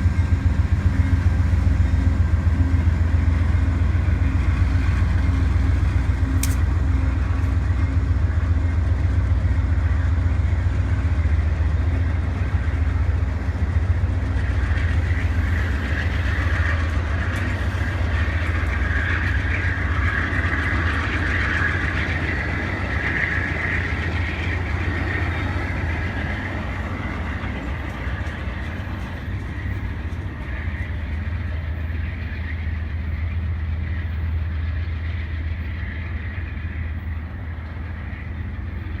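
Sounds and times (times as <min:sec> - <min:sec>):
diesel locomotive rumble: 0:00.0 - 0:39.0
train wheels clattering on rails: 0:00.0 - 0:39.0.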